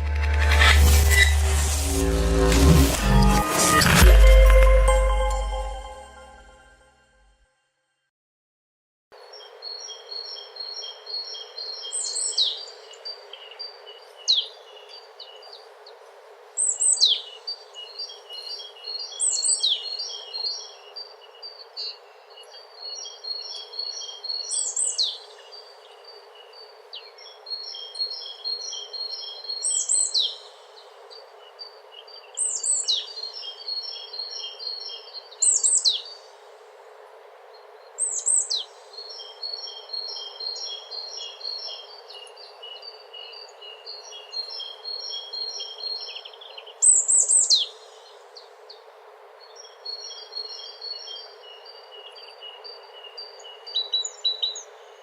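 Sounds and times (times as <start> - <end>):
songbirds chirping: 9.2 - 55.0
background hiss: 9.5 - 55.0.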